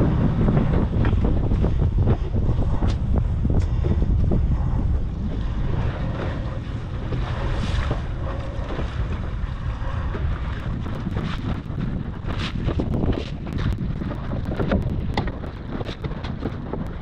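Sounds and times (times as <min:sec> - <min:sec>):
water splashing against boat: 0:00.0 - 0:17.0
wind buffeting microphone: 0:00.0 - 0:17.0.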